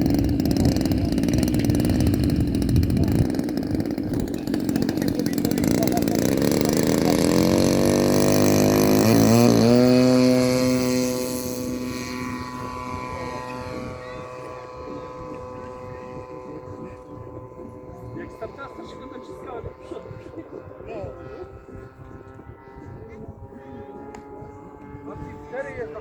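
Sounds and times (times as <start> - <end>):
model aircraft engine: 0.0 - 26.0.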